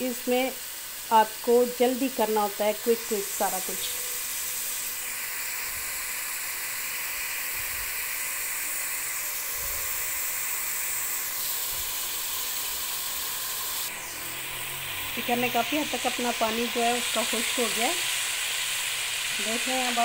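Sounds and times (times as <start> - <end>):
chicken sizzling in a pot: 0.0 - 20.0.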